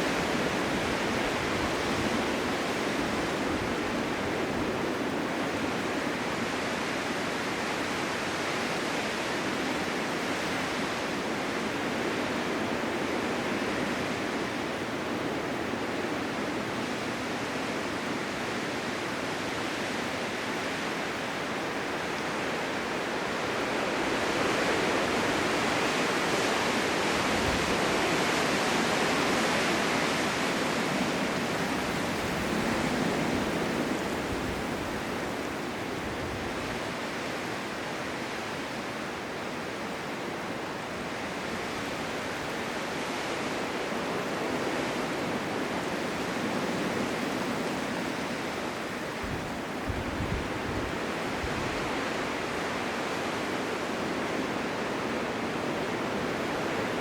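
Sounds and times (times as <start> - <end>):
blizzard wind blowing: 0.0 - 57.0.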